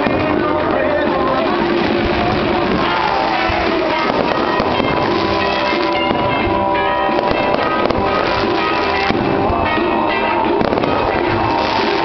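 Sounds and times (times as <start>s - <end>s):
fireworks bursting: 0.0s - 12.0s
music over public address: 0.0s - 12.0s.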